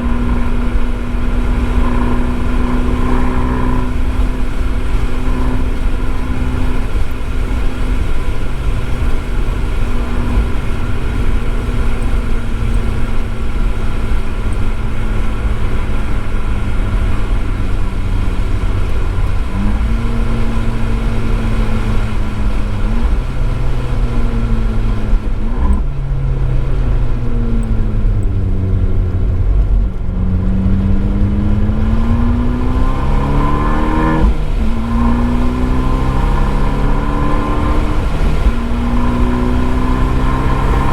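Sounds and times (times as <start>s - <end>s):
car engine revving: 0.0s - 40.9s
road and rain noise: 0.0s - 40.9s.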